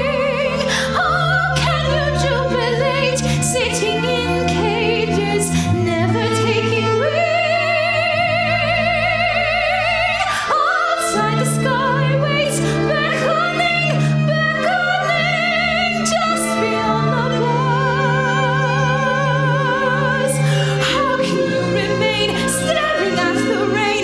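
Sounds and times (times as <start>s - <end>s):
soprano singing operatically: 0.0s - 24.0s
sustained instrumental accompaniment: 0.0s - 24.0s.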